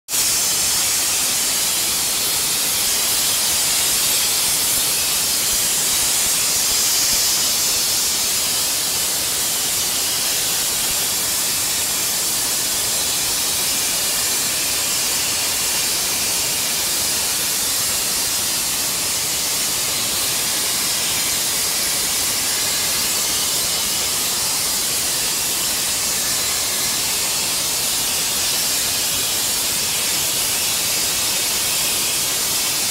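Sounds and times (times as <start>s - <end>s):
pressure washer spraying: 0.1s - 32.9s.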